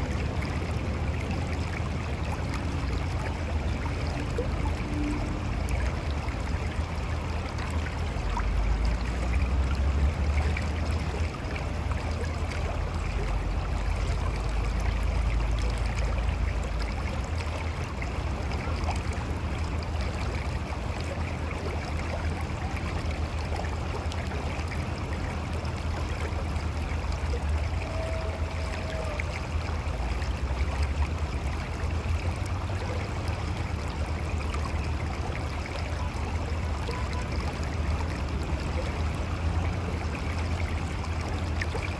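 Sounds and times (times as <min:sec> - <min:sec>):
river flowing over rocks: 0:00.0 - 0:41.9.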